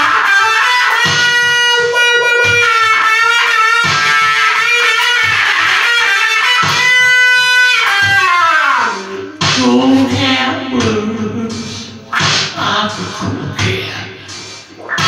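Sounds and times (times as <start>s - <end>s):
distorted electric guitar blues lead: 0.0s - 15.0s
steady low beat: 0.7s - 15.0s.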